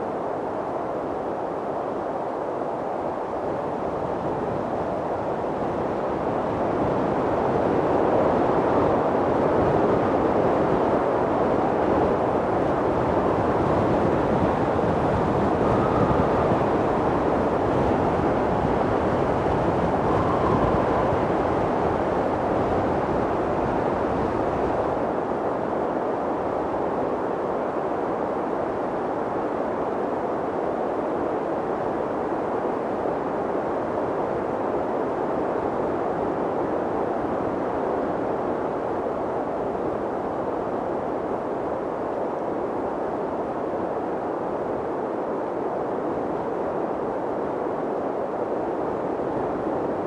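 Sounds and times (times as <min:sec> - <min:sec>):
strong wind blowing: 0:00.0 - 0:50.0.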